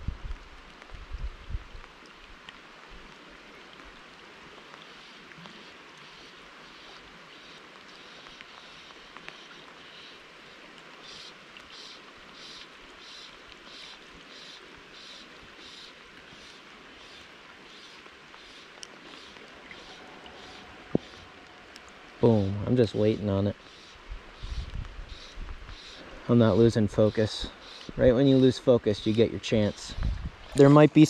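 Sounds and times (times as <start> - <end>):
rain falling on a river: 0.0 - 31.0.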